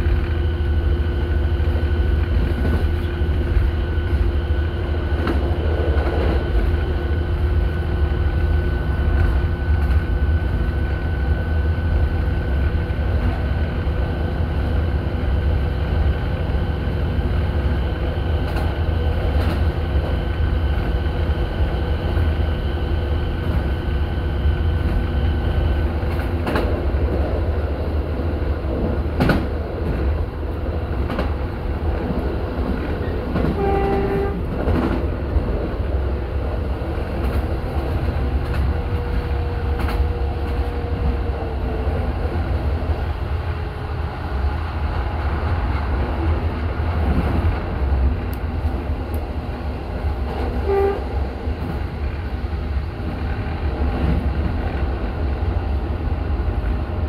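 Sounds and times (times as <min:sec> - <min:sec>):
railcar engine and wheels rumbling: 0:00.0 - 0:57.0.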